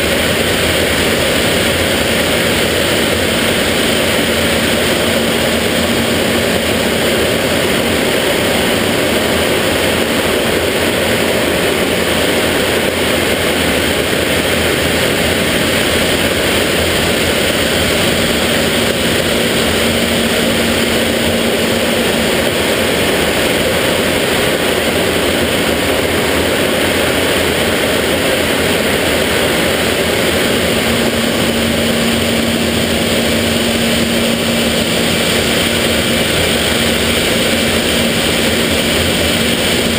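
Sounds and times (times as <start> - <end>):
faint steady hum: 0.0 - 39.9
jet engine and air rush: 0.0 - 39.9.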